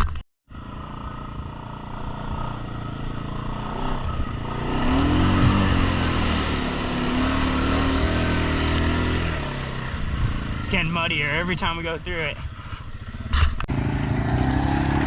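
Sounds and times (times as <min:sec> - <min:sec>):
atv engine revving: 0:00.6 - 0:11.0, 0:12.6 - 0:15.0.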